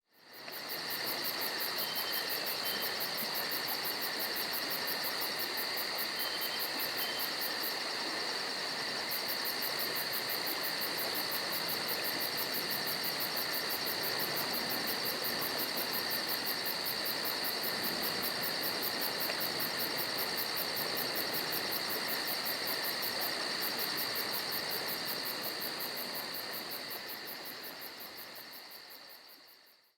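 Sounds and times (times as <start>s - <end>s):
insects chirping: 0.1s - 29.9s.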